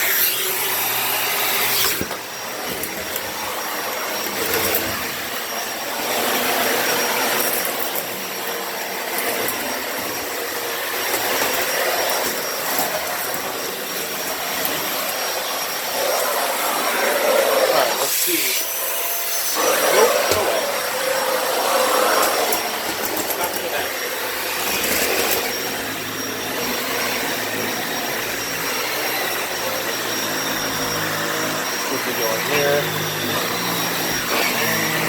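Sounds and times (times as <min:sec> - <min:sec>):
vacuum cleaner on carpet: 0:00.0 - 0:35.0.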